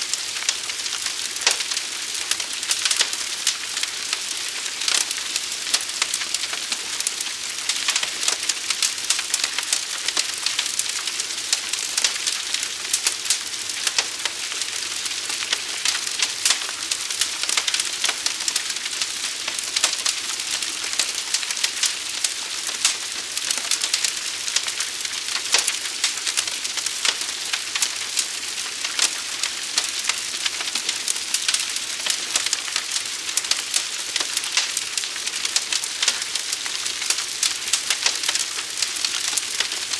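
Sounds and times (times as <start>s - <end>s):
fire crackling and hissing: 0.0s - 39.9s.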